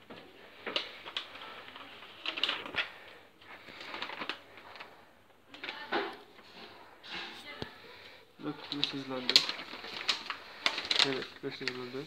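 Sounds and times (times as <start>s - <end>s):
paper map rustling: 0.0s - 12.0s.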